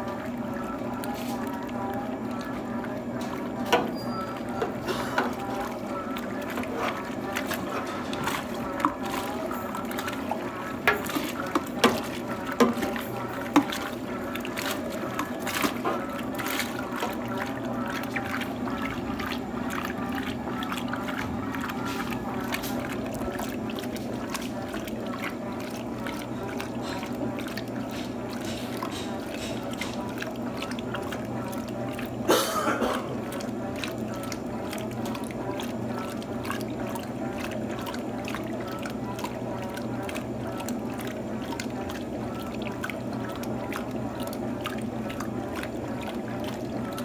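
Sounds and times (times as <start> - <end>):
washing machine hum: 0.0 - 47.0
water sloshing in washing machine: 0.0 - 47.0.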